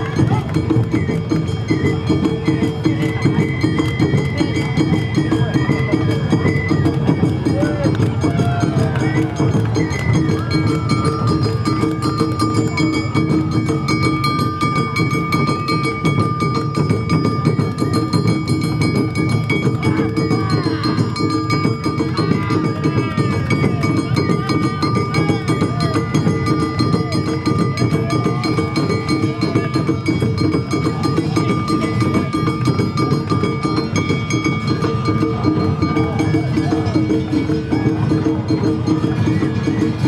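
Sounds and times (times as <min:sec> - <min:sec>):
taiko drums and percussion: 0:00.0 - 0:40.0.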